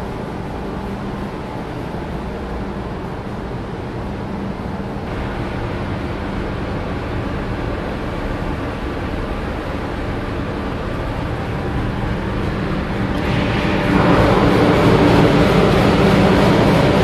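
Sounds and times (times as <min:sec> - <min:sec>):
low hum: 0:00.0 - 0:17.0
muffled engine room machinery drone: 0:00.0 - 0:17.0.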